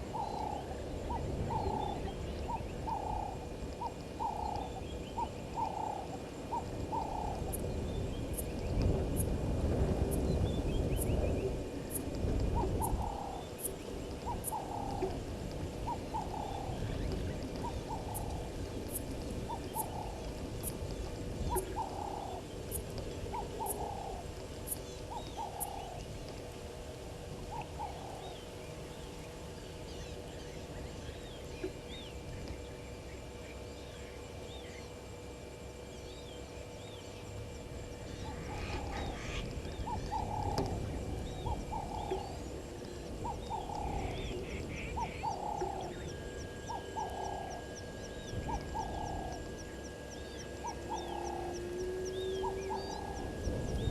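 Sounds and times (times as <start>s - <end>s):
faint high-pitched ticking: 0.0s - 33.4s, 36.7s - 53.9s.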